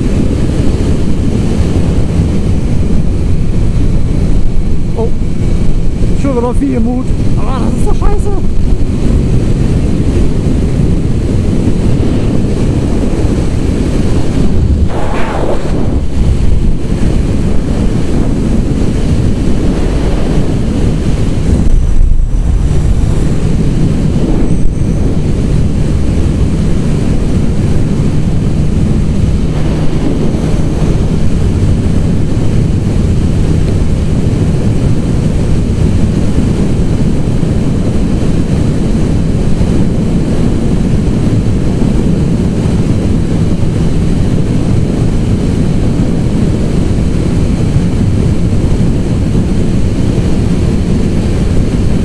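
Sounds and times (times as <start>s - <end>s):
motorcycle engine drone: 0.0s - 52.0s
wind rushing over microphone: 0.0s - 52.0s.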